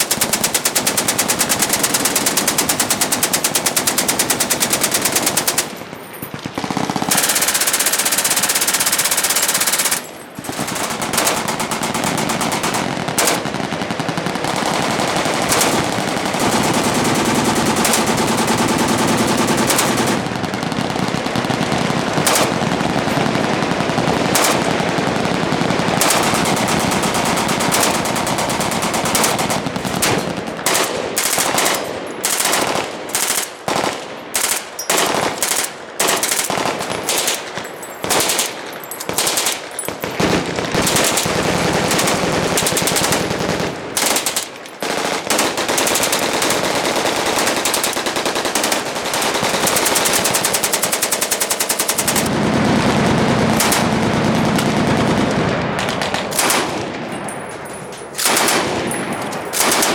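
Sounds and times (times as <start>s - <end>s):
machine-gun fire: 0.0s - 59.9s.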